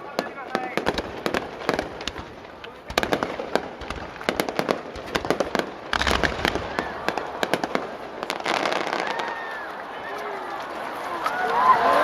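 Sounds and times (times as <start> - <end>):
fireworks bangs and pops: 0.0 - 9.8.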